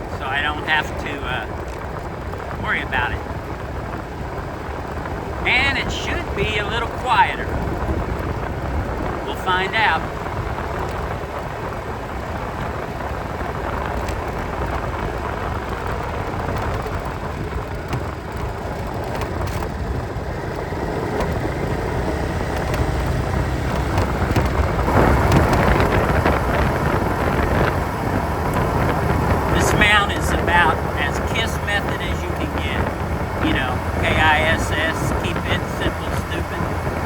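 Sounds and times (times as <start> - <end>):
road noise: 0.0 - 37.0
scooter engine: 0.0 - 37.0
wind noise: 0.0 - 37.0.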